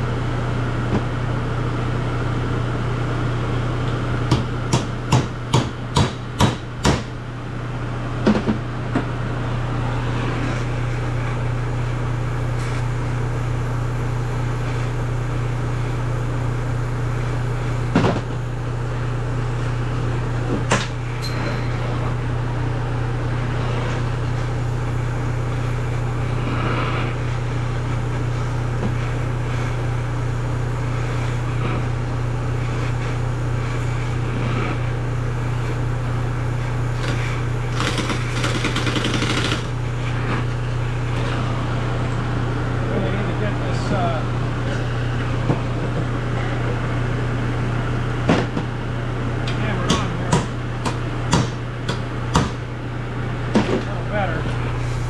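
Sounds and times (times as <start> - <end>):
exhaust fan humming: 0.0 - 55.0.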